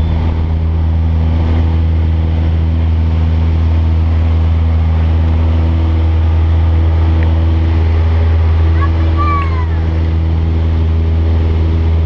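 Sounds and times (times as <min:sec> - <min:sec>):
plane engine and propeller drone: 0:00.0 - 0:12.0.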